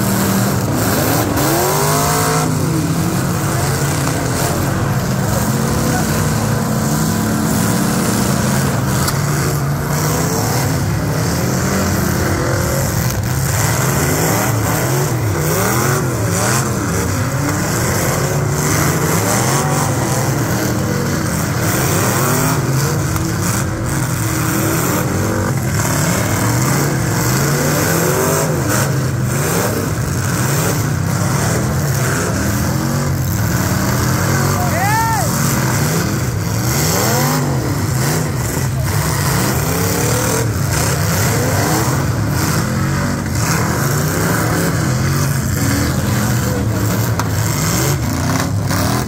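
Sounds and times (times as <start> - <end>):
car engines revving hard: 0.0 - 49.0.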